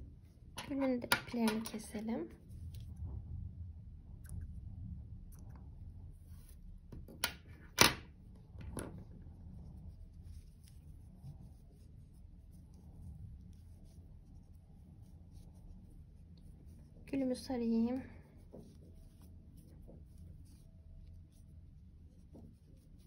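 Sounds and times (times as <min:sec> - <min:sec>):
soft rubbing of yarn: 0:00.0 - 0:23.0.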